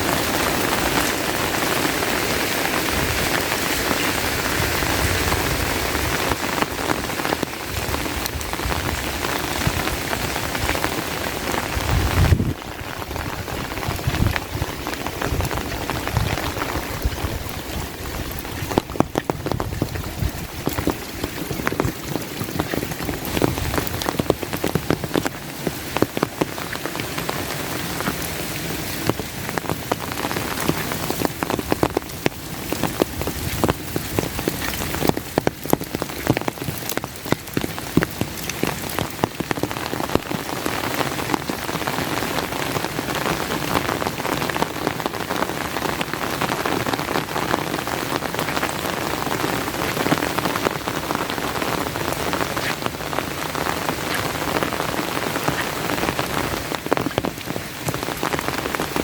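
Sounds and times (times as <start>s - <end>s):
raindrops ticking on umbrella: 0.0s - 59.0s
steady rain falling: 0.0s - 59.0s.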